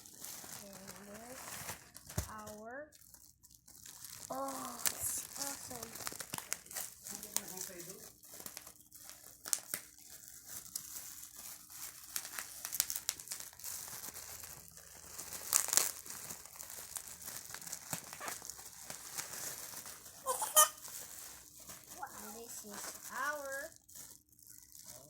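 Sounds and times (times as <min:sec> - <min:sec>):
plastic packaging crinkling: 0:00.0 - 0:25.0.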